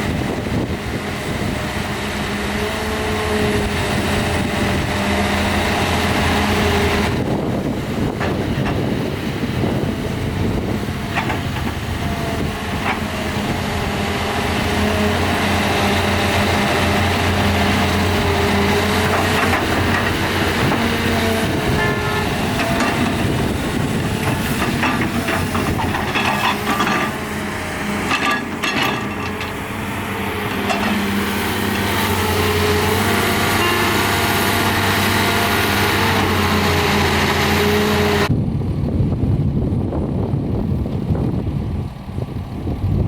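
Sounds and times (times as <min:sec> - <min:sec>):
diesel excavator engine running: 0:00.0 - 0:43.0.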